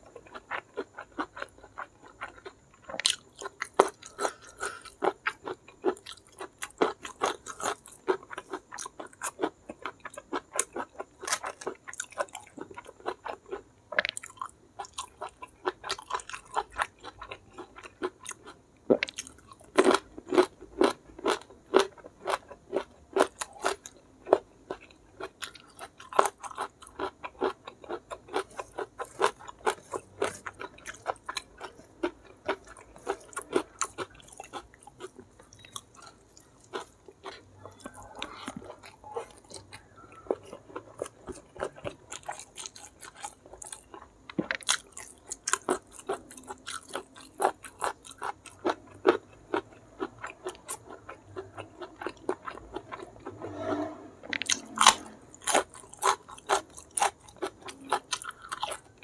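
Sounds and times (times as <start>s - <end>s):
man chewing and crunching: 0.0s - 53.6s, 54.2s - 59.0s.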